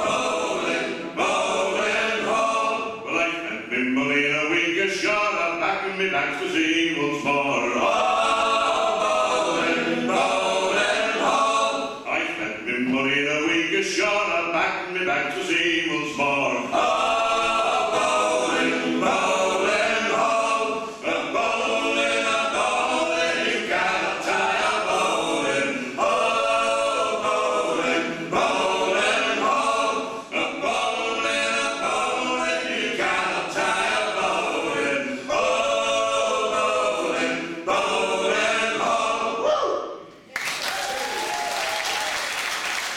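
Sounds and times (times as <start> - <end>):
men singing in close harmony: 0.0 - 39.5.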